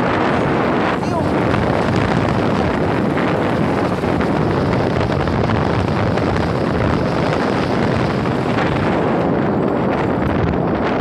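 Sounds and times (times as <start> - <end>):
motorbike running: 0.0 - 11.0
wind buffeting microphone: 0.0 - 11.0.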